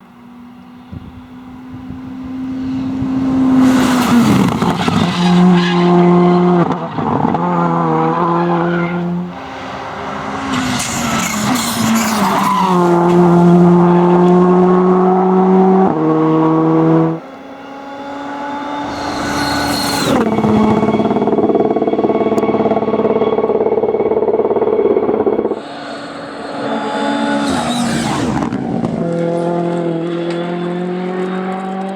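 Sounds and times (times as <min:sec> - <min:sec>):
rally car engines revving: 0:00.0 - 0:31.9
tyre and exhaust noise: 0:00.6 - 0:31.9.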